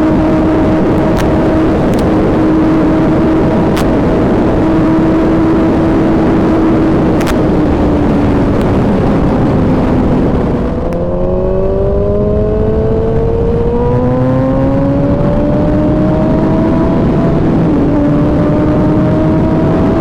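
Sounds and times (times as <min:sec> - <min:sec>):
heavy wind rush: 0:00.0 - 0:20.0
motorcycle engine running: 0:00.0 - 0:20.0.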